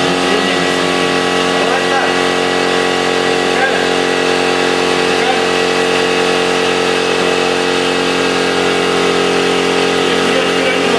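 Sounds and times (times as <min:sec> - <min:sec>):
motor humming steadily: 0:00.0 - 0:10.9.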